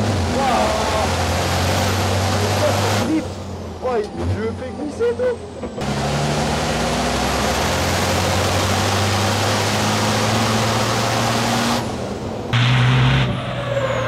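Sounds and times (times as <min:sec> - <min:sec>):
truck engine drone: 0:00.0 - 0:14.0
wind and road noise: 0:00.0 - 0:14.0.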